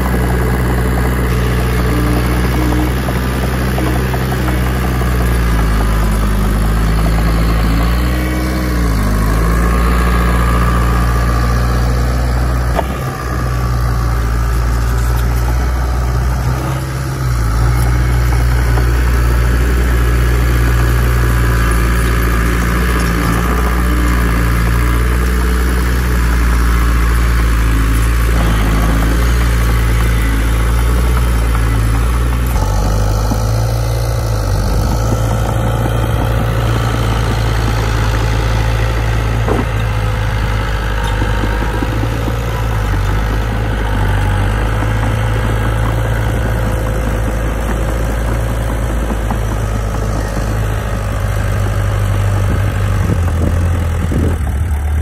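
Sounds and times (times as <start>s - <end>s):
diesel engine of heavy machine: 0.0s - 55.0s.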